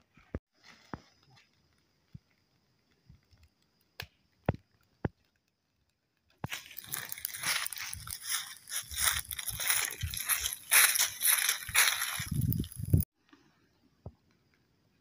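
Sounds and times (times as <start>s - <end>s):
fire crackling: 0.2s - 13.1s.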